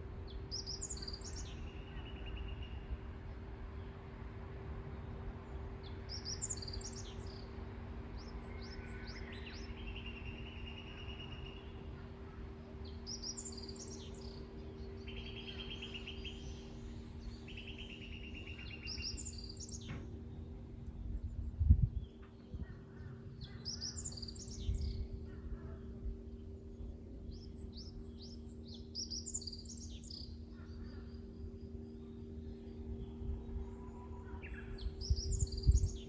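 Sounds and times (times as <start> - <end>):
faint constant hum: 0.0 - 36.0
songbirds chirping and trilling: 0.0 - 36.0.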